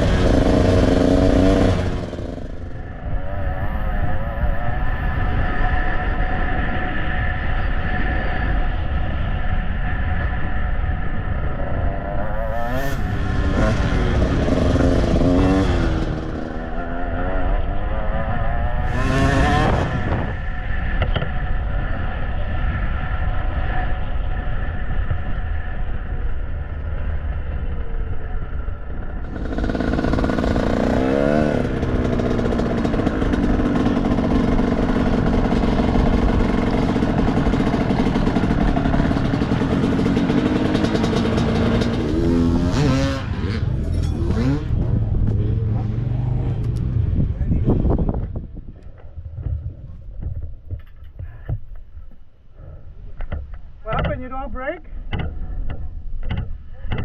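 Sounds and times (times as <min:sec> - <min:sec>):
dirt bike engines revving: 0:00.0 - 0:51.8.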